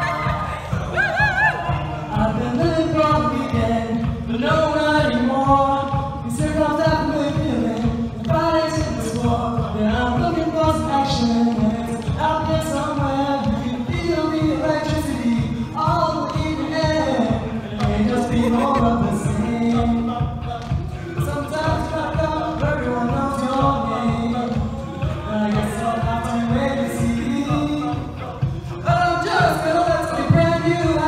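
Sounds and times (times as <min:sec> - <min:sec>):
male a cappella singing: 0:00.0 - 0:31.0
vocal percussion beat: 0:00.0 - 0:31.0.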